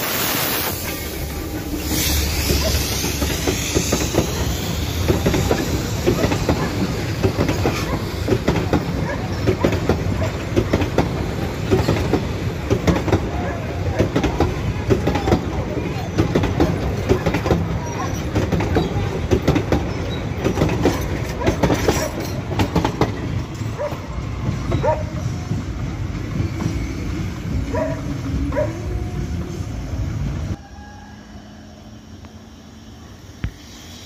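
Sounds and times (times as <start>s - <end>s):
outdoor background: 0.0s - 34.0s
train rumbling past: 0.0s - 34.0s
wheels clacking over rail joints: 1.3s - 29.2s.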